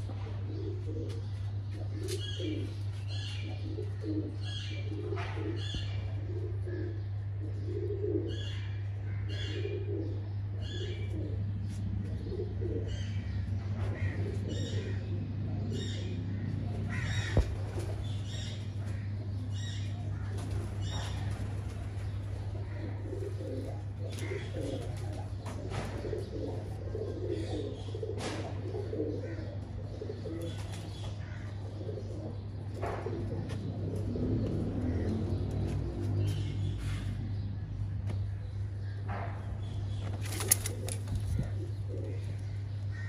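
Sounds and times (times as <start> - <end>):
pigeons cooing: 0.0 - 43.0
steady low hum: 0.0 - 43.0.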